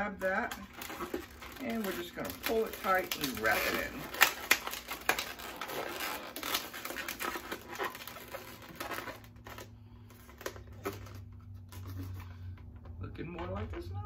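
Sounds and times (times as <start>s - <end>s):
balloons squeaking and rubbing: 0.0s - 12.5s.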